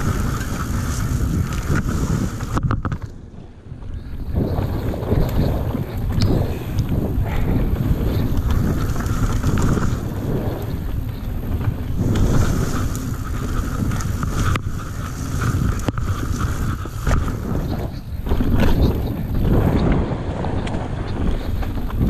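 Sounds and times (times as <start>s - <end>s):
tyres rumbling on dirt: 0.0s - 3.1s, 4.0s - 22.0s
wind rushing over microphone: 0.0s - 22.0s.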